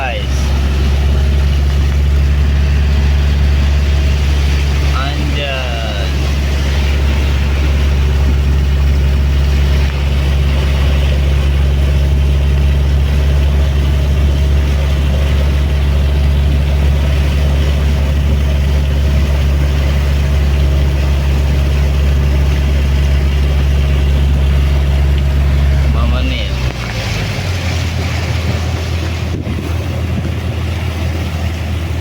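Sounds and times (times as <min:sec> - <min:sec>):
boat engine droning: 0:00.0 - 0:32.0
steady tones: 0:00.0 - 0:32.0.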